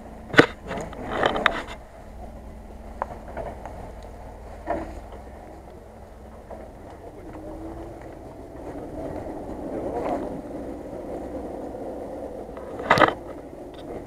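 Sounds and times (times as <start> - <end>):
car engine crawling through mud: 0.0 - 14.0.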